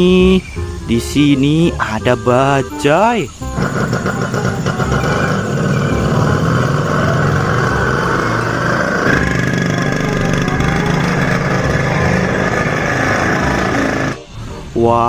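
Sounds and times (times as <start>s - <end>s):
auto-rickshaw engine idling: 0.0s - 14.4s.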